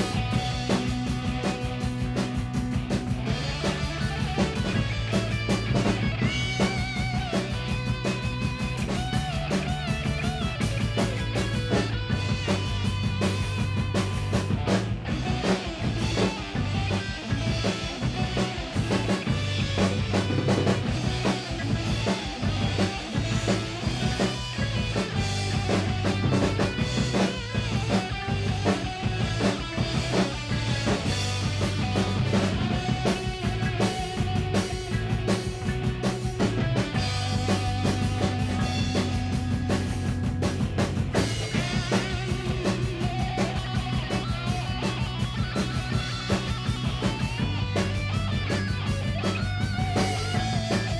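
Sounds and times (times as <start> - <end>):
drum kit and cymbal hits: 0.0 - 50.9
rock instrumental with bass line: 0.0 - 50.9.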